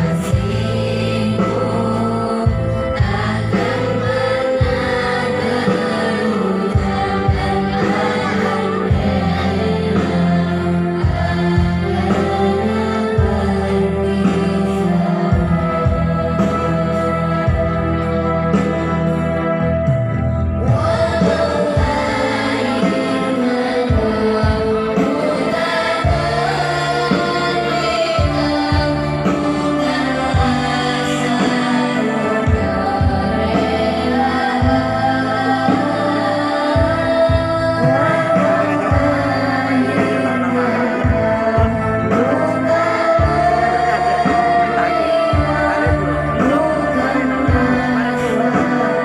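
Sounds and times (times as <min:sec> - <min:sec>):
low drum beats: 0:00.0 - 0:48.8
group of voices singing: 0:00.0 - 0:49.0
sustained low bass notes: 0:00.0 - 0:49.0.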